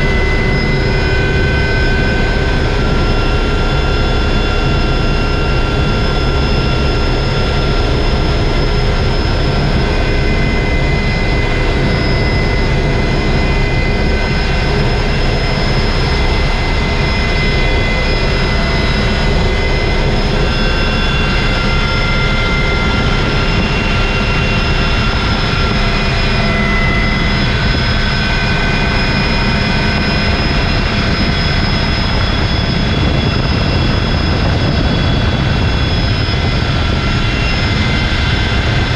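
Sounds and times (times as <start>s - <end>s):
helicopter rotor and engine: 0.0s - 38.9s
high whines: 0.0s - 38.9s.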